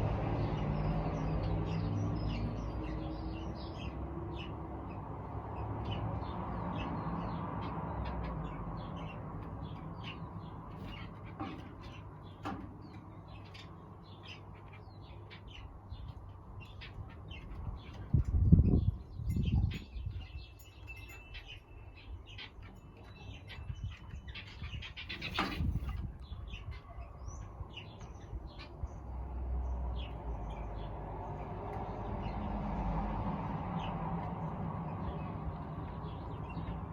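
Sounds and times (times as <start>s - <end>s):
birds chirping and tweeting: 0.0s - 36.9s.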